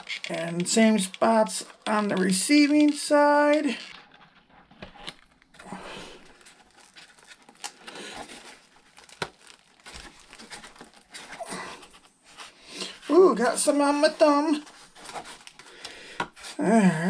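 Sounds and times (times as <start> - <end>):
foam pieces rubbing and crinkling: 0.0 - 15.8.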